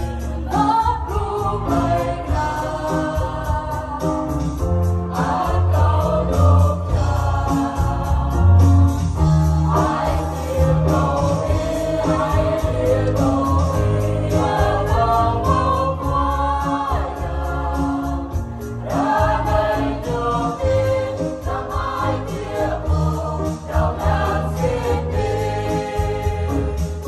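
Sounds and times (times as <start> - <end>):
electric keyboard bass notes: 0.0 - 27.0
mixed choir singing a hymn: 0.0 - 27.0.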